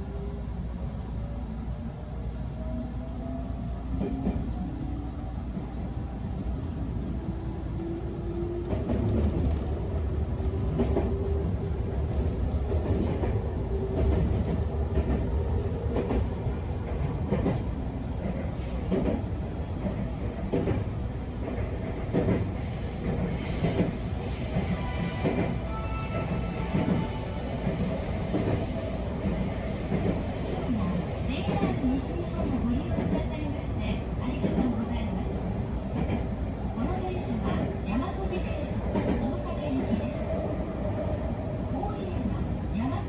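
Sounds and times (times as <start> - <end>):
train rumble: 3.9 - 43.0.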